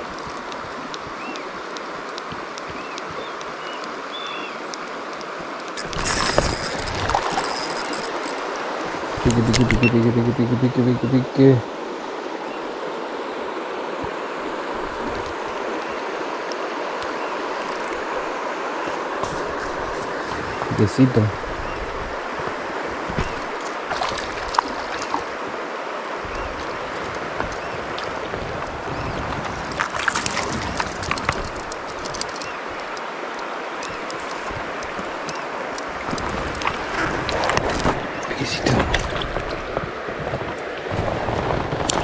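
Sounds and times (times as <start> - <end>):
river water rushing: 0.0 - 10.6, 11.2 - 42.0.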